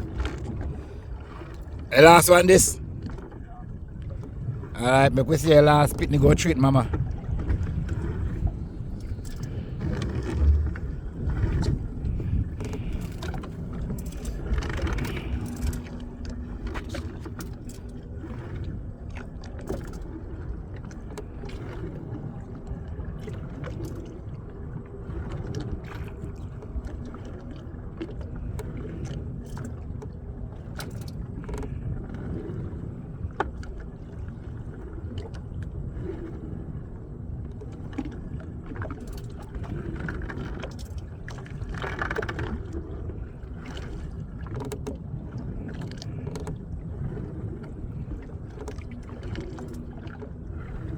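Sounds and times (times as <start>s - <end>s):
wind and water rumble: 0.0s - 50.9s.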